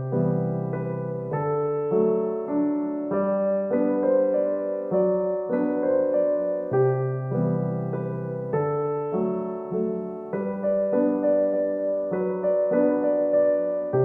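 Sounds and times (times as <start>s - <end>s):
gentle solo piano piece: 0.0s - 14.0s.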